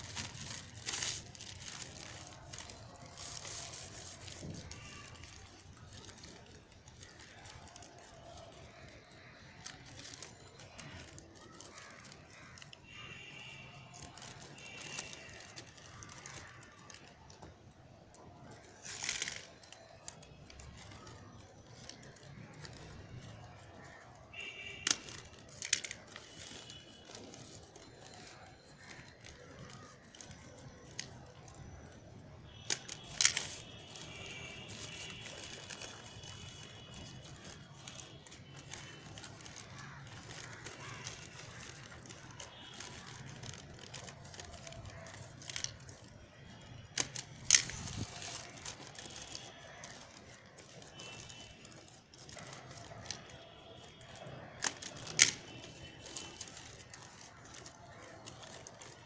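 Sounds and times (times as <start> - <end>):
newspaper rustling and crinkling: 0.0 - 59.0.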